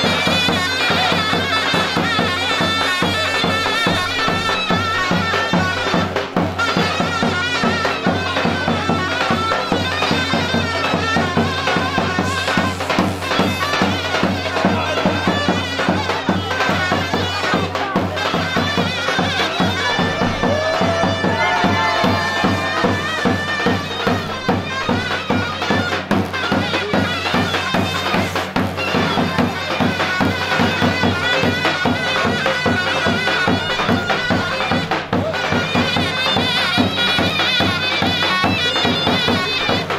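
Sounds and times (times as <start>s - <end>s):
reed wind instrument melody: 0.0s - 39.9s
steady drumbeat: 0.0s - 39.9s.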